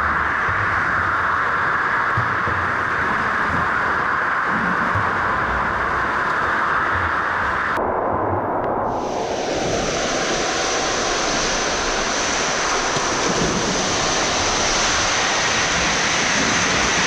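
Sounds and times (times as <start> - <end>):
pool water rushing and splashing: 0.0 - 17.0.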